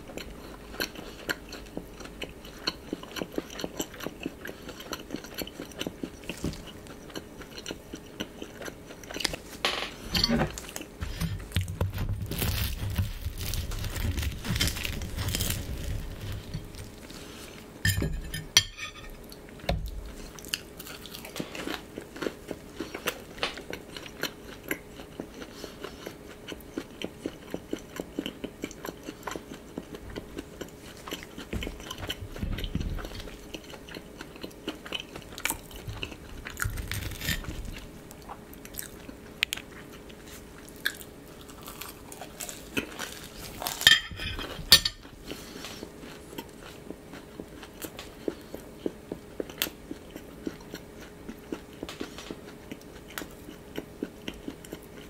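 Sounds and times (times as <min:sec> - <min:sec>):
crispy pastry chewing crunches: 0:00.0 - 0:17.7, 0:19.0 - 0:55.0.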